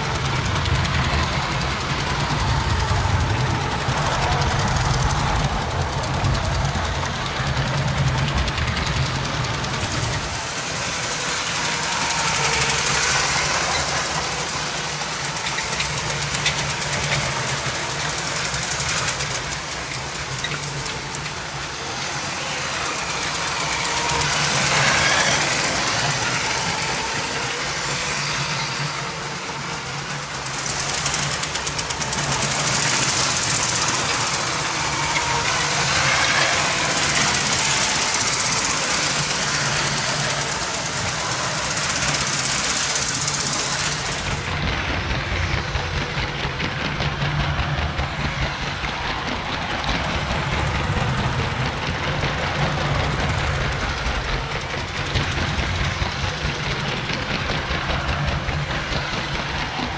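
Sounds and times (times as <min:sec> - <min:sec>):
rattle of toy train wheels: 0:00.0 - 0:59.9
toy train motor whir: 0:00.0 - 0:59.9.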